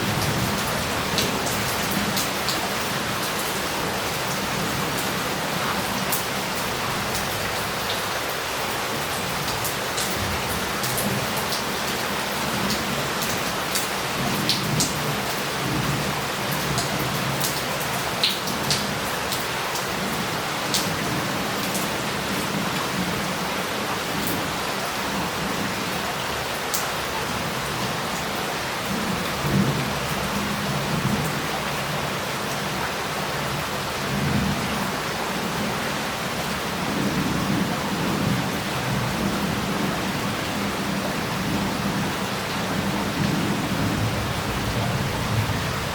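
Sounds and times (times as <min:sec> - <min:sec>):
heavy rain on roof tiles: 0:00.0 - 0:45.9
raindrops striking close by: 0:00.0 - 0:45.9.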